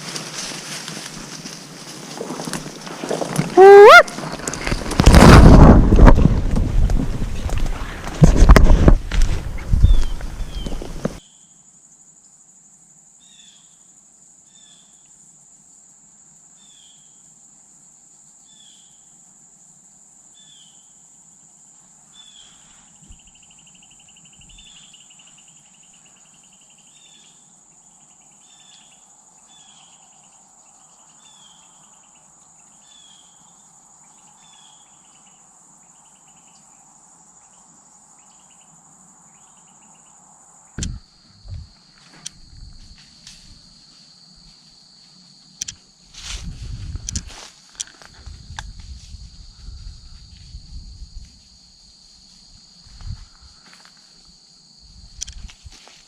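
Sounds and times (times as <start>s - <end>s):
insects droning: 0.0s - 56.0s
rustle: 0.0s - 56.0s.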